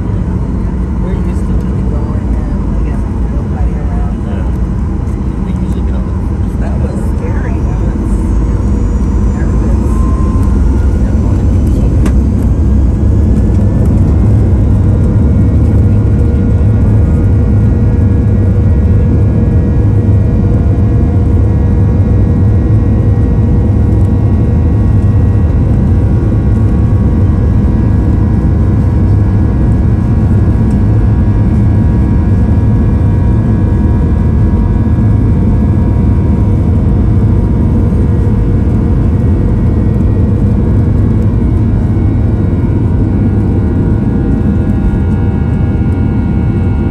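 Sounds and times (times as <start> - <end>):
jet engines rumbling with whine: 0.0 - 46.9.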